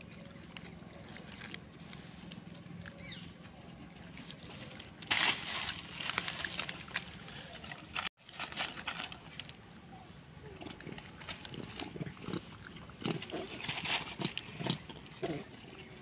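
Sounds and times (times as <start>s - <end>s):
dry leaves rustling and crunching: 0.0s - 9.8s, 10.8s - 12.1s, 13.2s - 15.9s.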